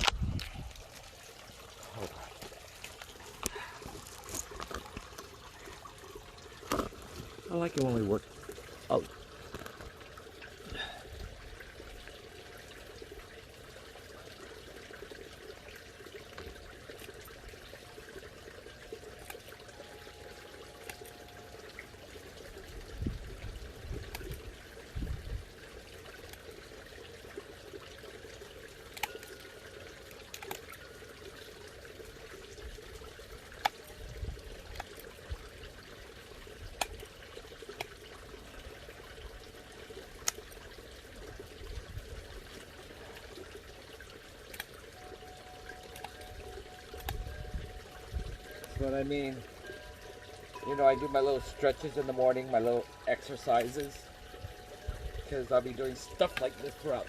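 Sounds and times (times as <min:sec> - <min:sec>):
bubbling trickling water: 0:00.0 - 0:57.0.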